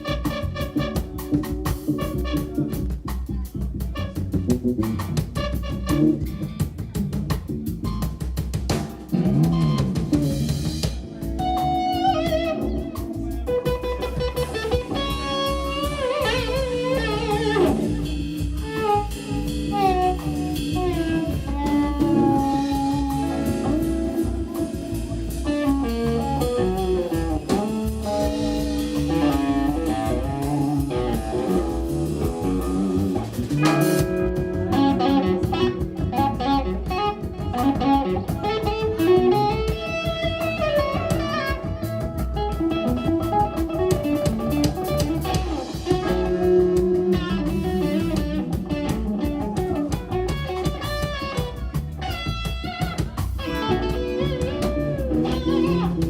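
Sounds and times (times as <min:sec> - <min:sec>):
bass guitar: 0:00.0 - 0:56.0
drum and cymbal accent: 0:00.0 - 0:56.0
drum kit: 0:00.0 - 0:56.0
electric guitar lead: 0:00.0 - 0:56.0.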